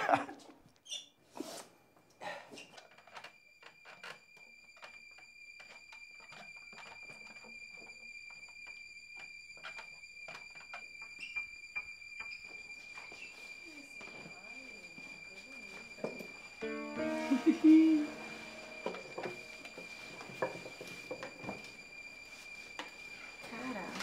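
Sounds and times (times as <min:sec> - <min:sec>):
thin high-pitched whine: 0:03.0 - 0:24.0.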